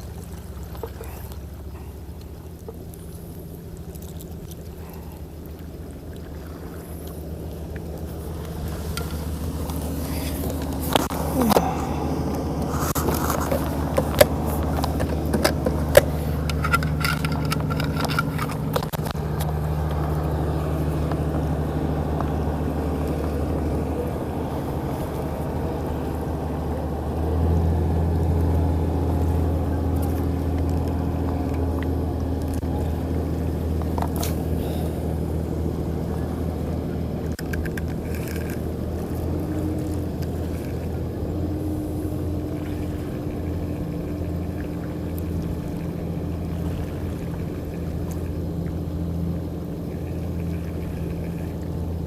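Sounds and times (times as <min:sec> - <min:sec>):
engine droning: 0:00.0 - 0:52.0.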